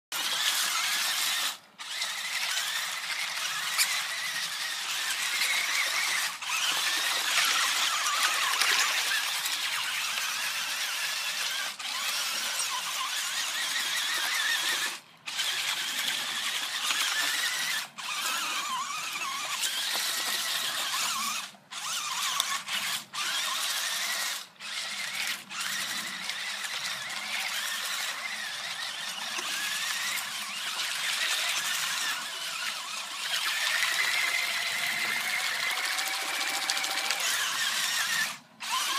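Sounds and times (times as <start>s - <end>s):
toy motors whining: 0.1s - 38.9s.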